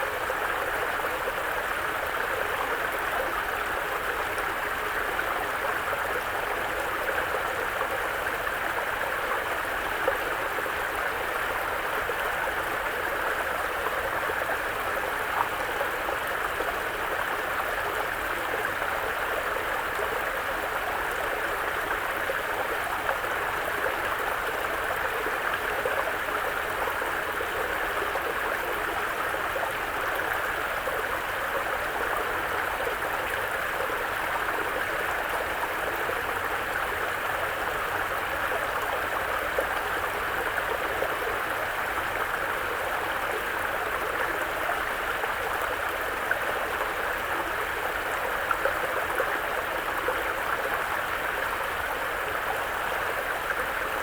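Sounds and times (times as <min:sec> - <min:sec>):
brook flowing: 0:00.0 - 0:54.0.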